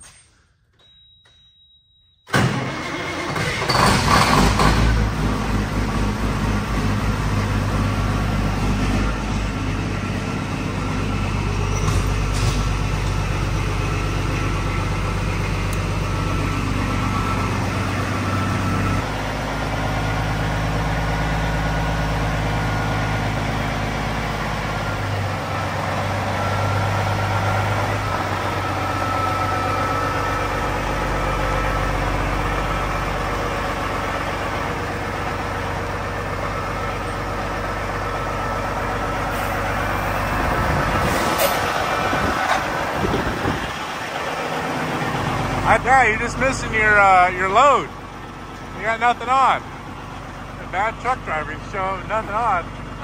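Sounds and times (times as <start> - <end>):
diesel engine cranking: 2.3 - 53.0
diesel engine idling: 2.4 - 53.0.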